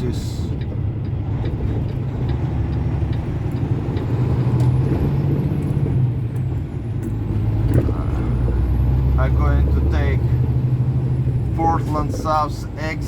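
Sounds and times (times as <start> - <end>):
diesel truck engine droning: 0.0 - 13.0.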